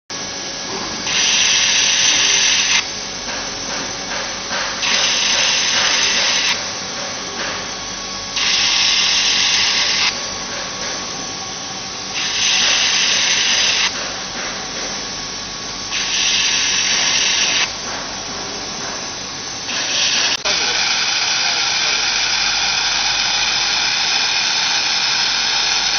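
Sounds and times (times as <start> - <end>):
machine hum: 0.1 - 25.9
laser welder loud hiss: 0.3 - 7.7, 8.3 - 10.3, 12.0 - 17.8, 19.3 - 25.9.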